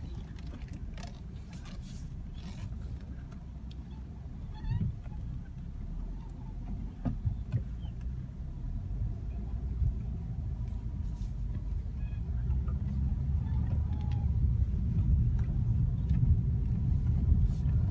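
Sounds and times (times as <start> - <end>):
low car rumble: 0.0 - 17.9.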